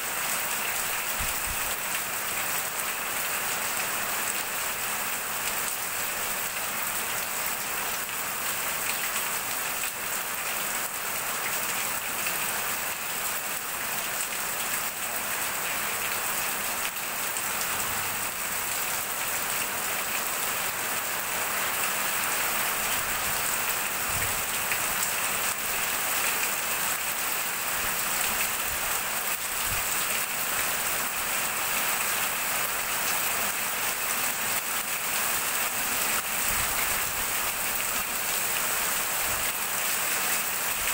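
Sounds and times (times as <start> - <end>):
water streaming off roof: 0.0 - 40.9.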